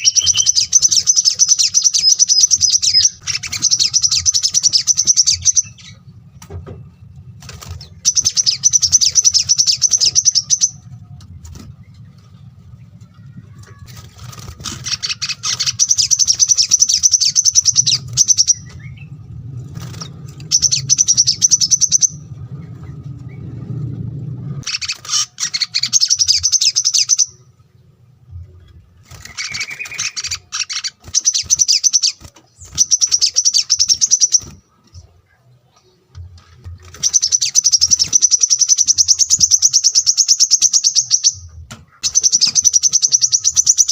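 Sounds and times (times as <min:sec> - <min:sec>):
low steady hum: 0:00.0 - 0:39.7
songbirds singing: 0:00.0 - 0:43.9.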